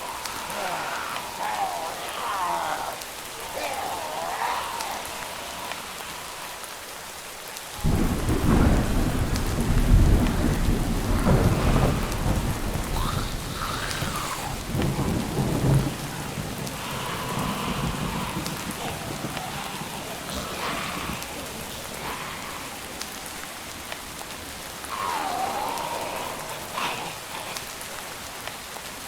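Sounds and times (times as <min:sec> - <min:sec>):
steady rain falling: 0:00.0 - 0:29.0
thunder rumbling: 0:00.0 - 0:29.0.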